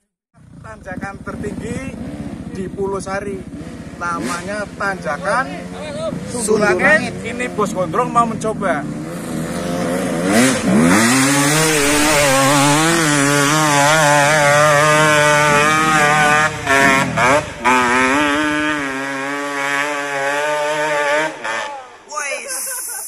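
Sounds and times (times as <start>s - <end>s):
dirt bike engine revving: 0.4s - 22.8s.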